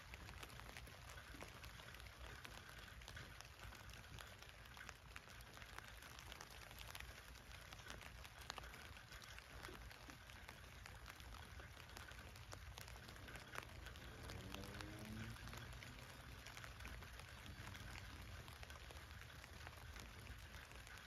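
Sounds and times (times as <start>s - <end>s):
rain drops ticking on tent fabric: 0.0s - 21.0s
soft steady rain hiss: 0.0s - 21.0s.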